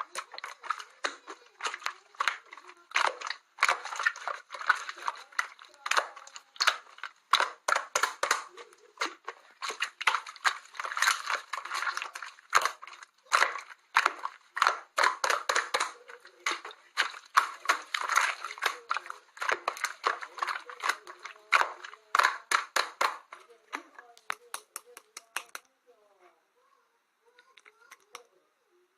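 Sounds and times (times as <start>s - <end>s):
slime clicking and popping: 0.0s - 25.7s.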